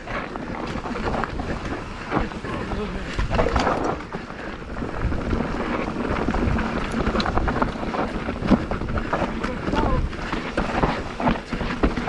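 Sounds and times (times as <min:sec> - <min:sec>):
bike clattering over rough ground: 0:00.0 - 0:12.0
bike tyre noise: 0:00.0 - 0:12.0
wind rushing over microphone: 0:00.0 - 0:12.0.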